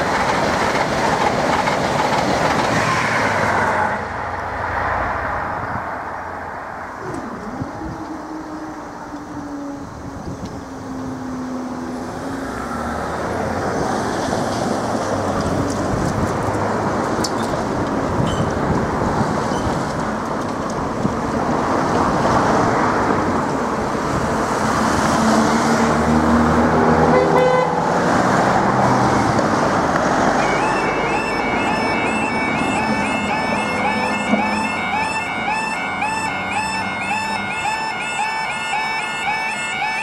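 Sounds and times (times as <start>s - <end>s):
road traffic rushing: 0.0s - 40.0s.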